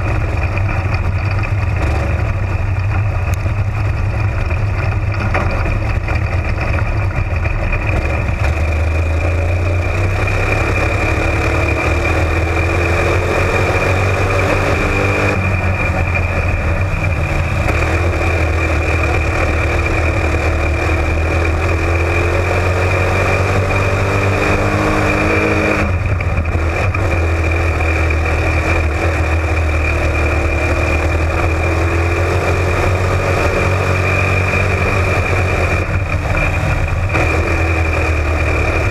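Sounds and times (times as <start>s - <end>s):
race car engine revving: 4.4s - 38.9s.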